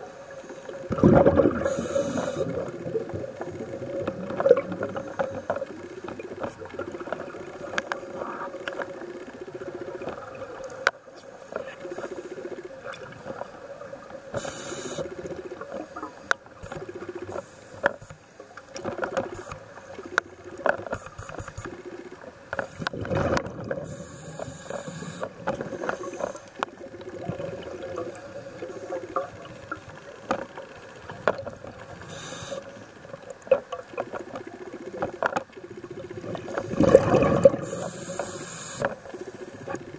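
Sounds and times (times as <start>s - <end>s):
regulator bubbles underwater: 0.0s - 18.0s, 18.6s - 39.9s.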